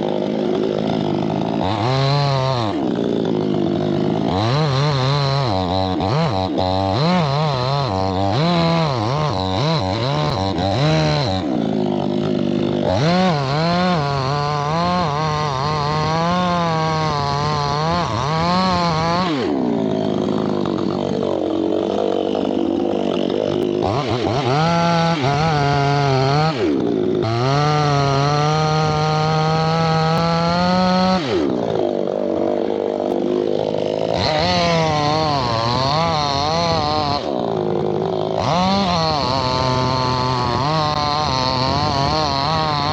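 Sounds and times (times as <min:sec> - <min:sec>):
chainsaw cutting through tree: 0:00.0 - 0:42.9.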